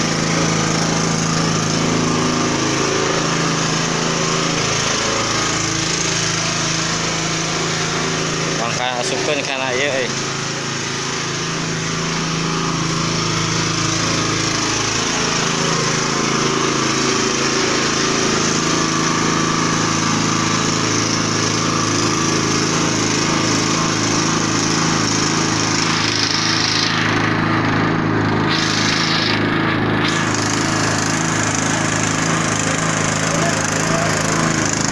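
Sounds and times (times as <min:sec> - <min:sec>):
small petrol engine running: 0:00.0 - 0:34.9.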